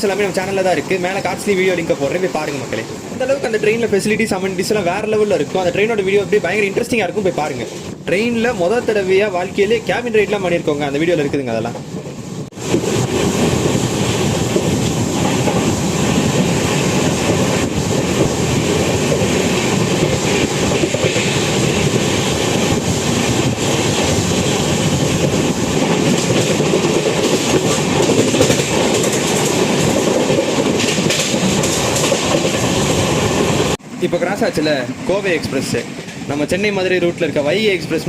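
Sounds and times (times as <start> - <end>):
rush and wheel clatter of trains: 0.0 - 38.0
train passing close by: 0.0 - 38.0.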